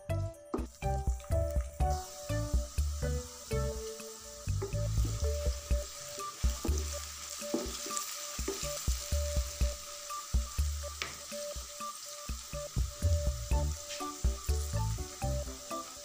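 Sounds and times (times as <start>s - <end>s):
background music: 0.0s - 16.0s
okra sizzling in hot oil: 0.7s - 16.0s.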